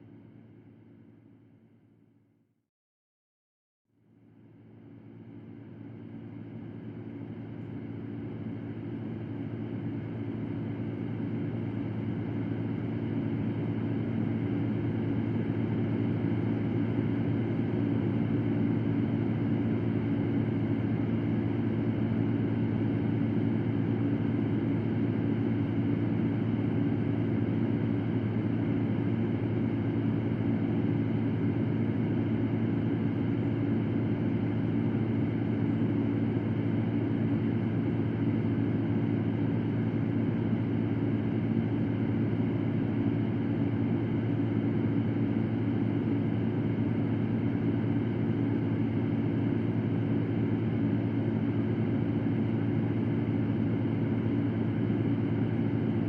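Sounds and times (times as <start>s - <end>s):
electric fan running: 6.8s - 56.0s.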